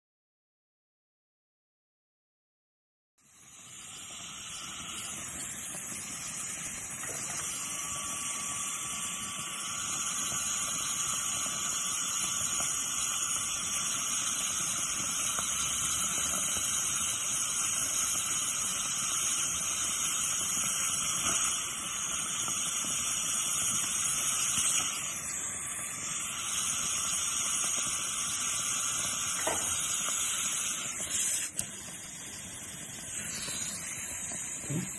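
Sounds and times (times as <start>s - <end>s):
dental suction hissing: 3.2s - 34.9s.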